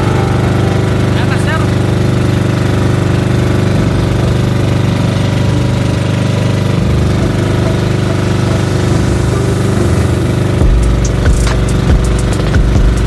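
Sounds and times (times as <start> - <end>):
boat engine pulsing drone: 0.0 - 13.0.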